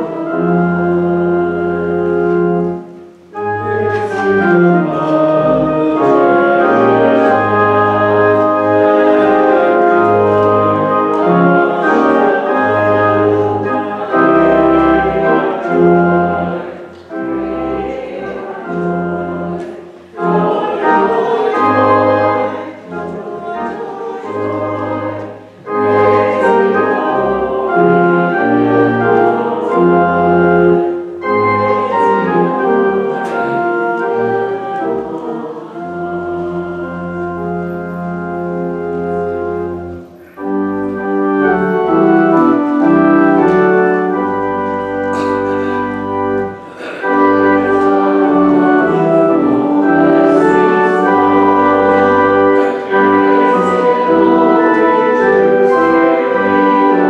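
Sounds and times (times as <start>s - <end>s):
organ playing slow chords: 0.0s - 57.0s.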